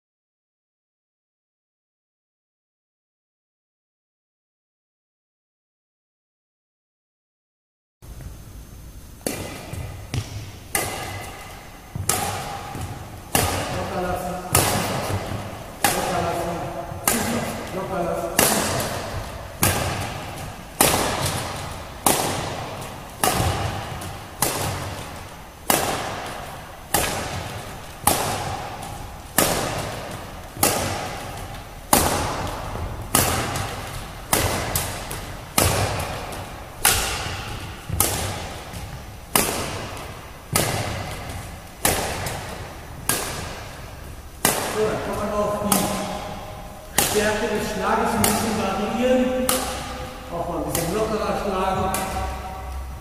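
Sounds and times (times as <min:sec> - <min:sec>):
racket hitting shuttlecock: 0:09.2 - 0:53.0.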